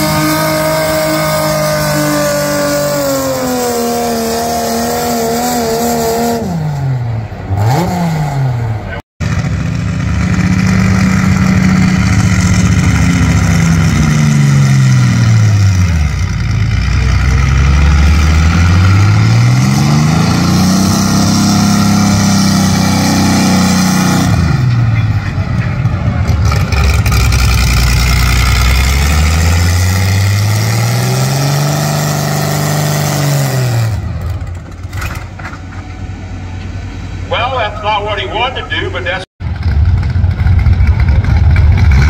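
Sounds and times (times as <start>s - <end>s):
loud tractor engine revving: 0.0s - 35.3s, 37.3s - 42.0s.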